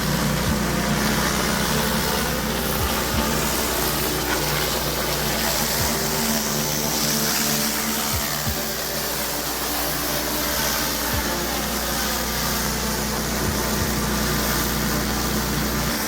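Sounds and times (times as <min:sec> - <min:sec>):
high-pressure water spraying: 0:00.0 - 0:16.0
pressure washer engine running: 0:00.0 - 0:16.0.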